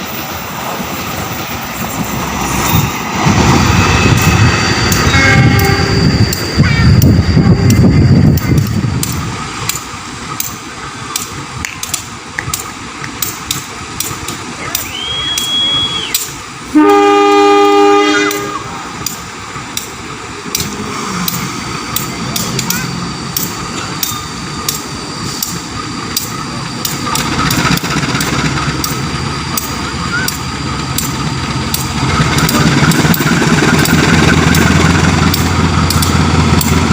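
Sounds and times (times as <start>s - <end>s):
sharp clicks of train: 0.0s - 36.9s
train rumble: 0.0s - 36.9s
train running noise: 0.0s - 36.9s.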